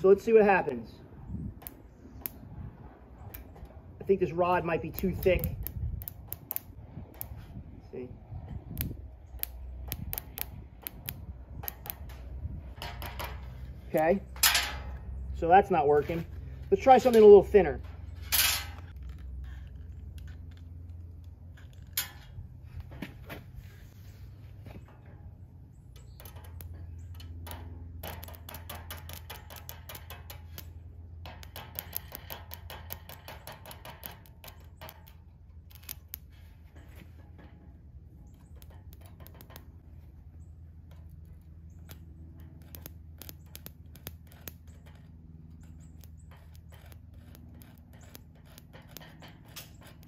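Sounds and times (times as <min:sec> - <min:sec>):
wire crackling and sparking: 0:00.0 - 0:23.0, 0:25.8 - 0:50.0.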